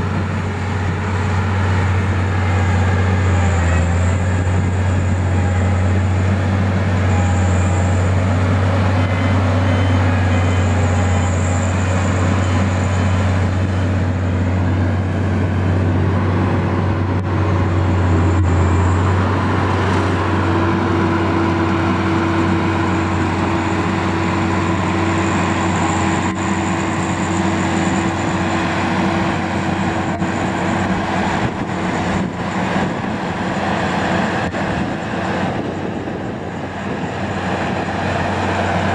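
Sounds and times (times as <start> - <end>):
diesel engine drone: 0.0 - 38.9
steady higher whine: 0.0 - 38.9.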